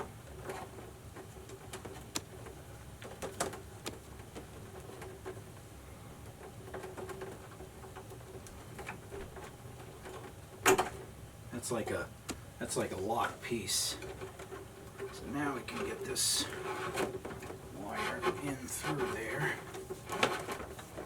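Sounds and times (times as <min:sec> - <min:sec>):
small clicks and scrapes of hand work: 0:00.0 - 0:11.1, 0:14.0 - 0:21.0
faint steady hum: 0:00.0 - 0:21.0.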